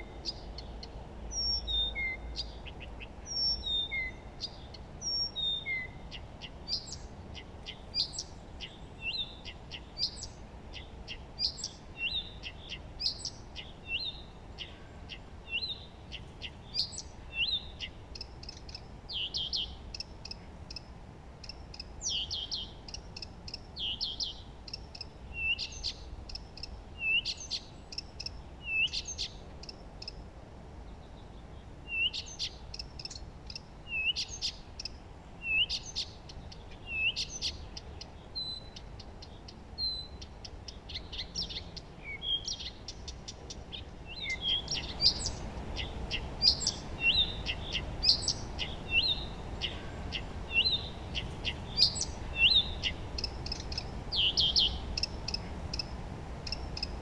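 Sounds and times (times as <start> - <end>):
low background noise: 0.0 - 57.0
songbirds singing and chirping: 0.0 - 57.0.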